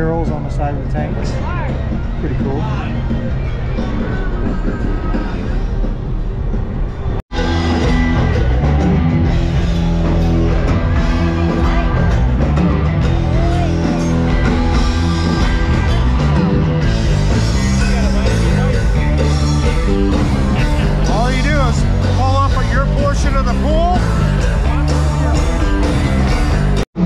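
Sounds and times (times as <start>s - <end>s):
rock music with singing: 1.3s - 27.0s.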